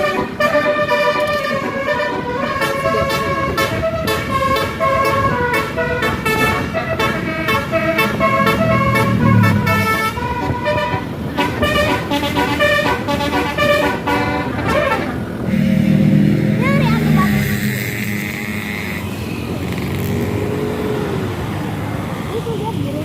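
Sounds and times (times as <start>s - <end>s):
musical air horn melody: 0.0s - 19.2s
low engine rumble: 0.0s - 23.0s.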